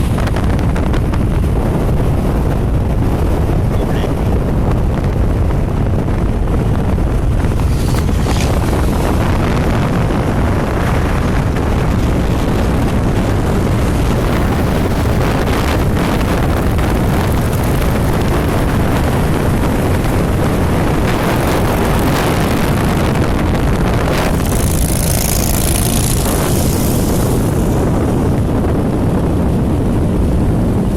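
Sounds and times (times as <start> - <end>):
car engine and road noise: 0.0 - 30.9
wind rumble on microphone: 0.0 - 30.9.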